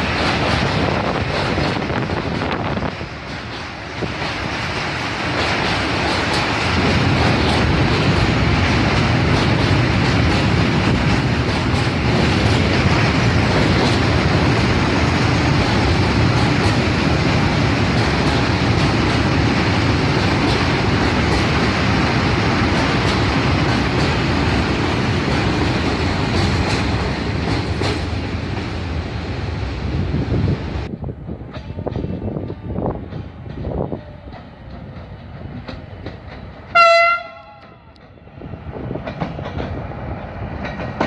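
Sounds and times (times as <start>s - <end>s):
train rumbling past: 0.0s - 41.0s.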